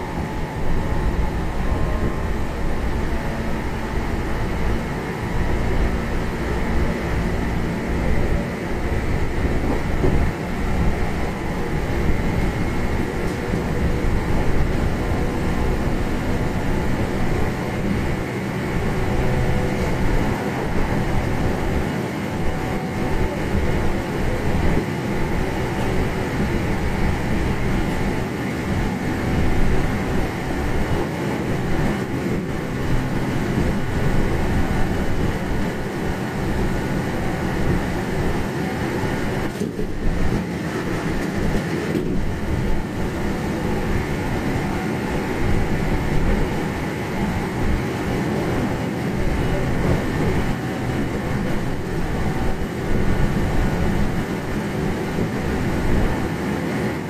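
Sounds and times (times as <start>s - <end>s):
running gear hum: 0.0s - 57.0s
train wheels rumbling on rail: 0.0s - 57.0s.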